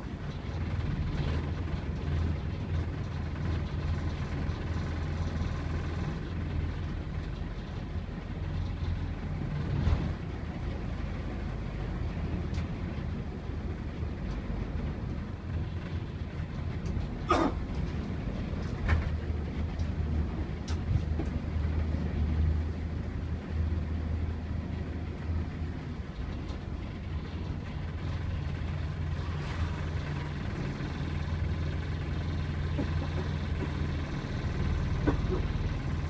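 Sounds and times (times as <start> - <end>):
bus engine drone: 0.0 - 36.0.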